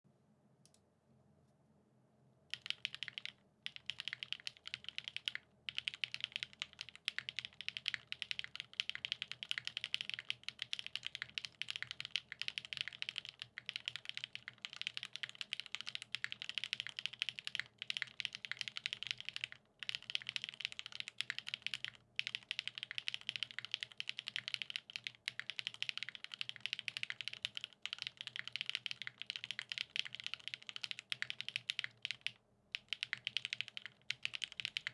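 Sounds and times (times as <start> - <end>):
mechanical keyboard typing: 2.5 - 34.9.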